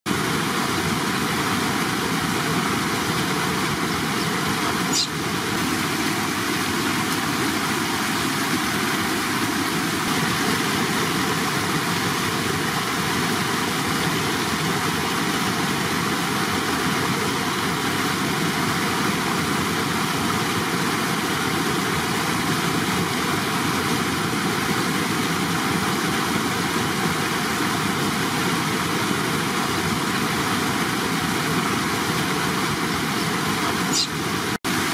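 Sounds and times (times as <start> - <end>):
flowing water: 0.1 - 34.9.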